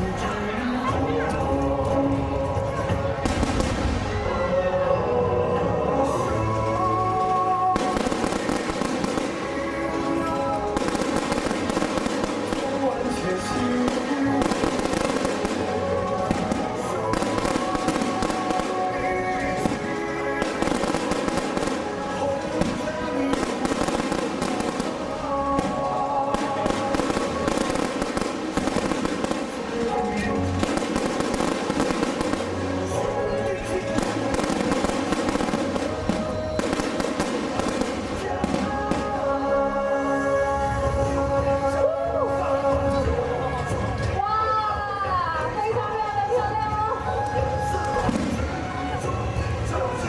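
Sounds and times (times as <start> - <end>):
fireworks crackling and popping: 0.0 - 5.0, 6.0 - 44.3, 46.5 - 50.0
music playing: 0.0 - 50.0.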